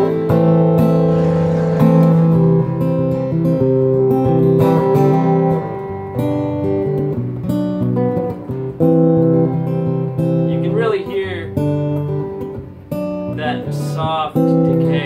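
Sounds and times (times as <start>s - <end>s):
acoustic guitar with reverb: 0.0s - 15.0s.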